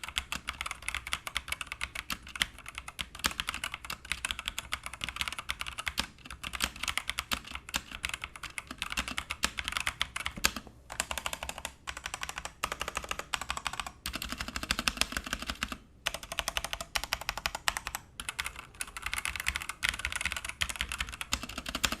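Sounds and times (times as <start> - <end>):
mechanical keyboard typing: 0.0 - 22.0.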